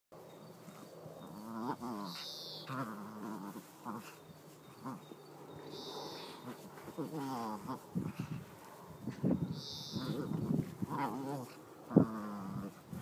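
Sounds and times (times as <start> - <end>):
dog growling in play: 0.6 - 13.0.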